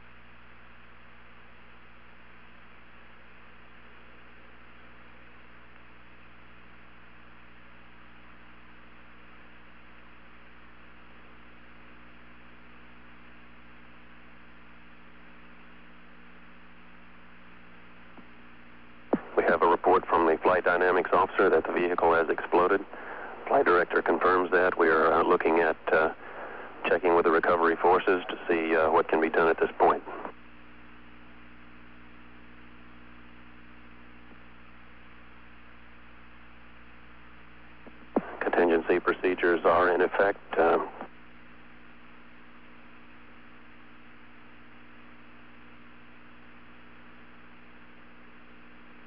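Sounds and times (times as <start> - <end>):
electrical hum with low tones: 0.0 - 49.0.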